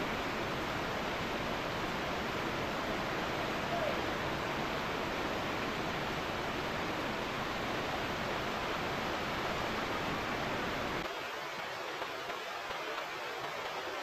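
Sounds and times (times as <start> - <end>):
rain pouring: 0.0 - 14.0.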